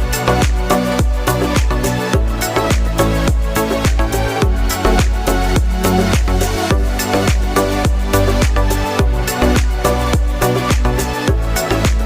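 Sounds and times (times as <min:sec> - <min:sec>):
dance music with steady beat: 0:00.0 - 0:12.0
deep bass hits falling in pitch: 0:00.0 - 0:12.0.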